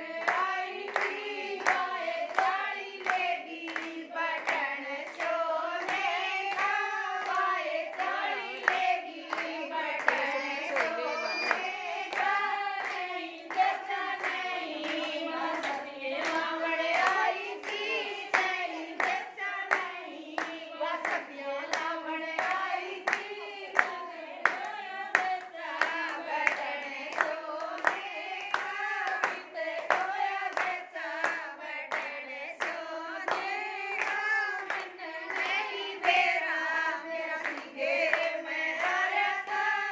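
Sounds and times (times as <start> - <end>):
women singing in unison: 0.0 - 39.9
hand claps: 0.2 - 39.9.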